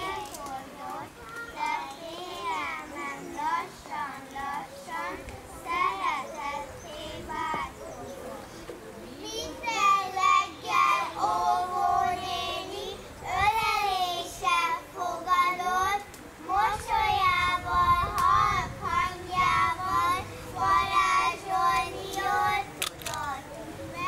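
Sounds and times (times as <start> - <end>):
young children singing: 0.0 - 8.1, 9.1 - 24.0.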